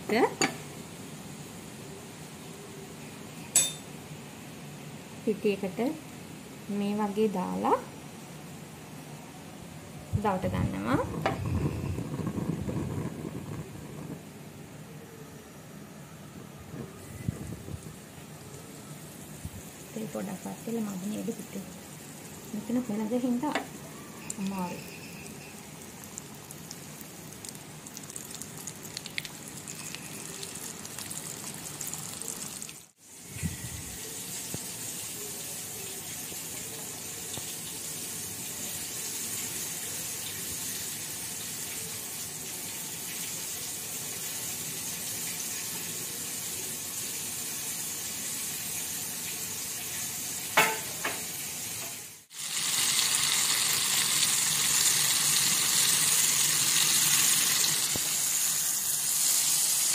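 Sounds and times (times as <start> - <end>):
prawns deep-frying in hot oil: 0.0 - 15.0, 18.0 - 59.9.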